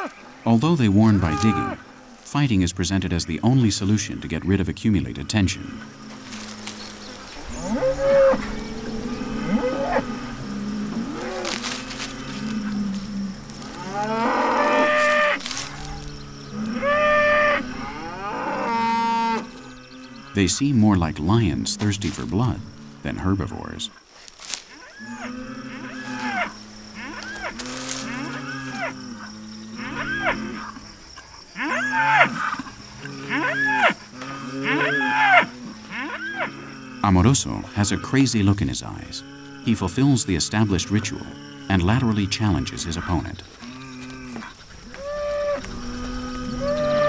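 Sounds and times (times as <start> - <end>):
bulls bellowing: 0.0 - 2.2, 5.6 - 23.9, 24.7 - 47.0.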